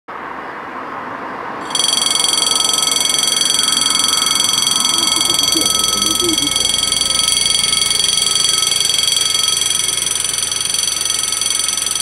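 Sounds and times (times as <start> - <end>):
level crossing bells ringing: 1.6 - 12.0.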